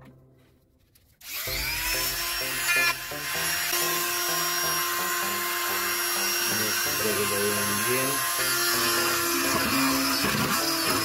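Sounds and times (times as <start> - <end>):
rotary tool whining: 1.2 - 11.0.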